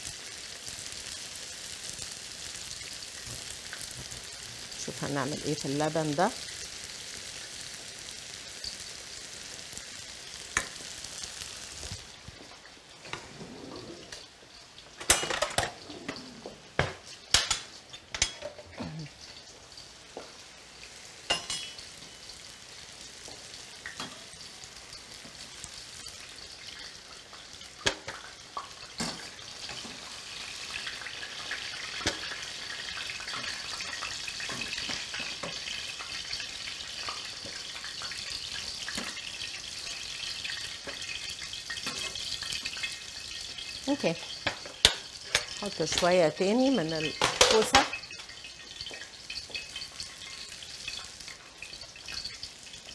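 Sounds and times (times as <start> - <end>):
vegetables sizzling in oil: 0.0 - 52.9.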